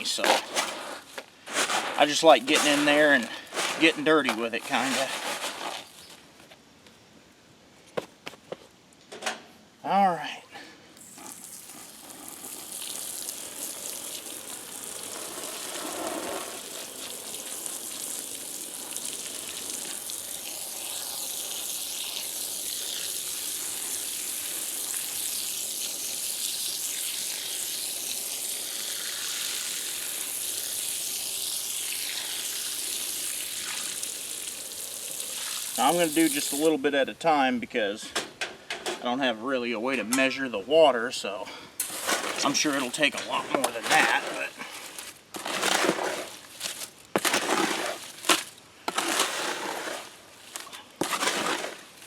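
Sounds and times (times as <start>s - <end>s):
water running from a hose: 0.0s - 6.0s, 11.0s - 36.8s, 41.8s - 52.0s.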